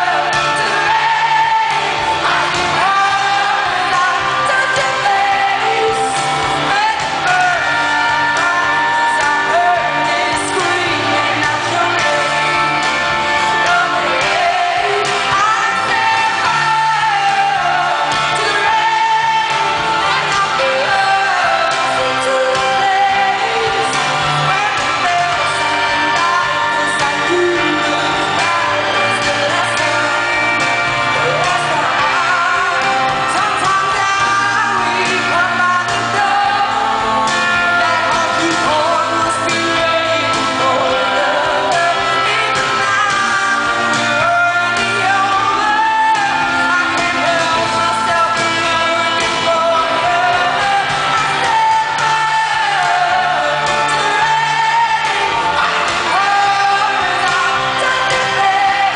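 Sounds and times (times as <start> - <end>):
drums: 0.0 - 58.9
guitar: 0.0 - 58.9
woman singing a ballad: 0.0 - 58.9.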